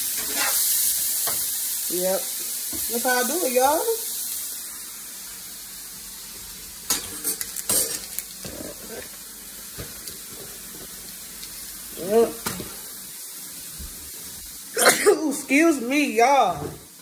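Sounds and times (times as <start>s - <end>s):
patties sizzling in a pot: 0.0s - 17.0s.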